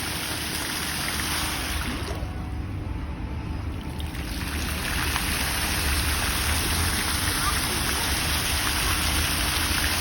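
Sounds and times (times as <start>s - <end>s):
fountain water splashing: 0.0s - 2.8s, 3.5s - 10.0s.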